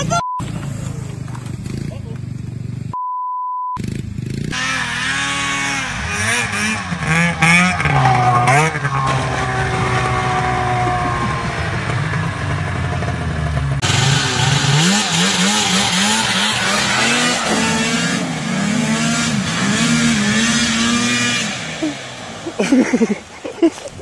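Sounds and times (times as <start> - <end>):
small engine revving: 3.8 - 23.8
snowmobile engine running: 3.8 - 24.0.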